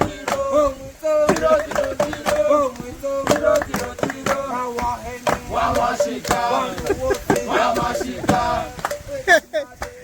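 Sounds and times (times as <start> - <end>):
voices singing a chant: 0.0 - 10.0.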